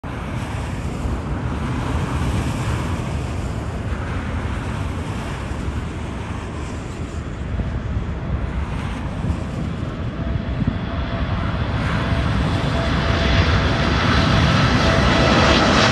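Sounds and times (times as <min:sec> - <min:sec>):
jet engines rumbling: 0:00.0 - 0:15.9
wind buffeting microphone: 0:00.0 - 0:15.9.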